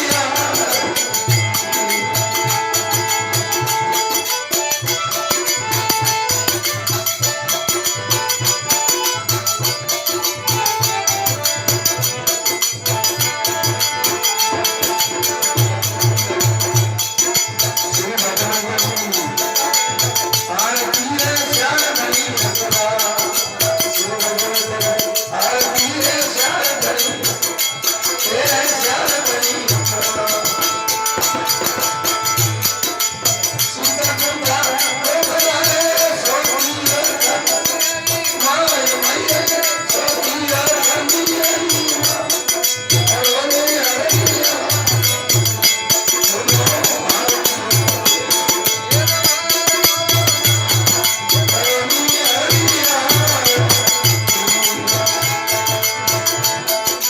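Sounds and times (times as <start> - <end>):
devotional music: 0.0 - 57.0
drum beat: 0.0 - 57.0
jingling percussion: 0.0 - 57.0.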